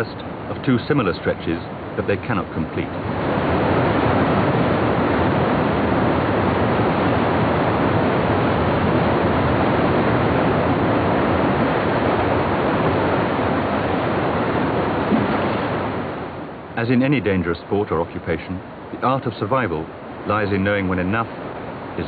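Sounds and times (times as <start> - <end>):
river rapids rushing over boulders: 0.0 - 22.0.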